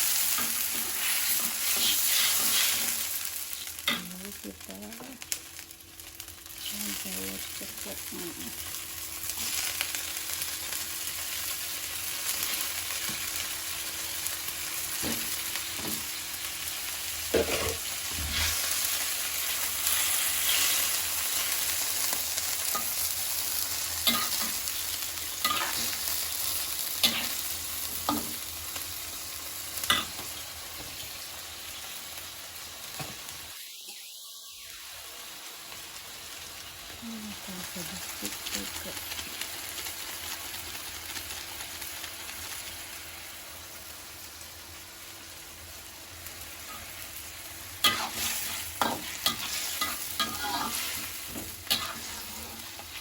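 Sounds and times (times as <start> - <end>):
eggs sizzling in a frying pan: 0.0 - 53.0.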